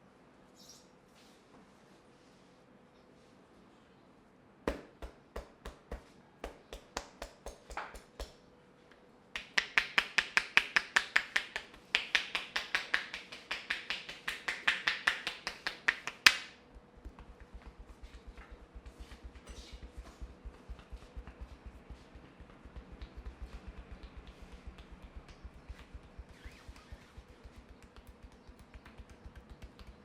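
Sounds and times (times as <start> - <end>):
sharp taps: 4.7 - 8.4, 9.4 - 30.0.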